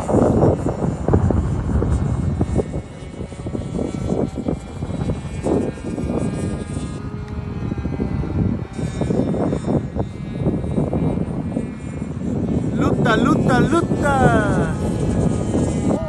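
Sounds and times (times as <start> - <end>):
distant model airplane motor whine: 0.0 - 16.0
wind buffeting microphone: 0.0 - 16.0.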